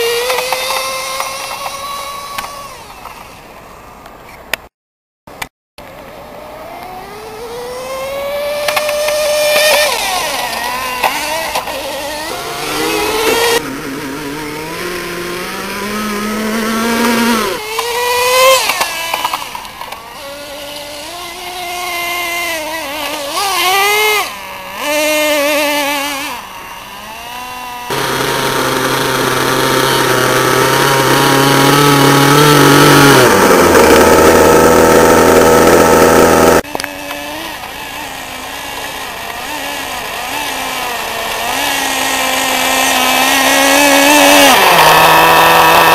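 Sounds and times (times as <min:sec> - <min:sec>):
small engine revving: 0:00.0 - 0:03.6, 0:05.8 - 0:45.9.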